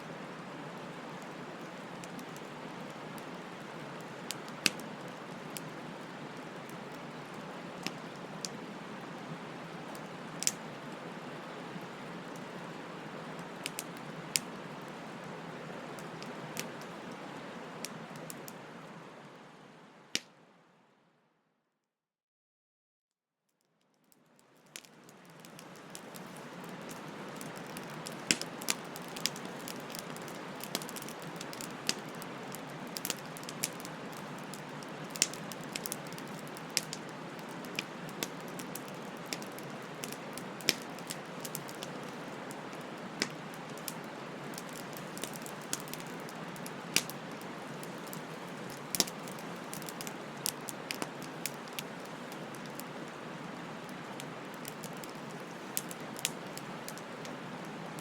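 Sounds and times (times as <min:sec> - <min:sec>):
wood fire crackling and popping: 0:00.2 - 0:09.1, 0:09.7 - 0:18.6, 0:24.2 - 0:58.0.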